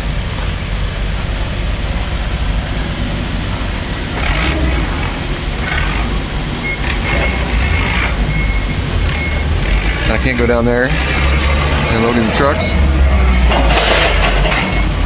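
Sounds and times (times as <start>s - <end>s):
vehicle rumble and hiss: 0.0s - 15.0s.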